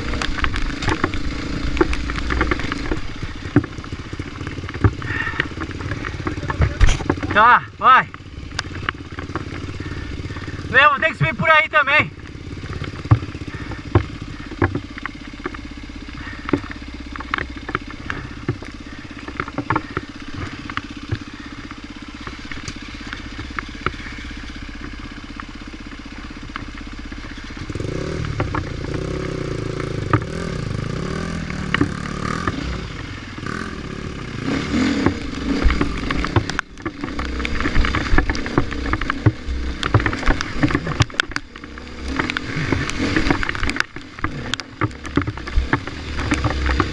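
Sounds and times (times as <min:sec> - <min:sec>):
dirt bike engine revving: 0:00.0 - 0:46.9
sharp ticks and knocks: 0:00.0 - 0:46.9.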